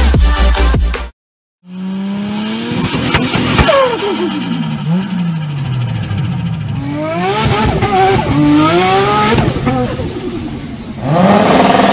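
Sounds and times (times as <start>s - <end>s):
car engine revving: 1.6s - 11.9s.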